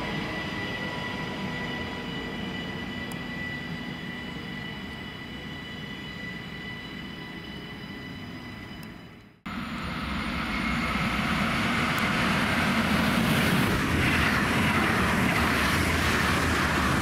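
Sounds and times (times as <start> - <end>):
electric train rumble: 0.0 - 17.0
high-pitched whine: 0.0 - 17.0.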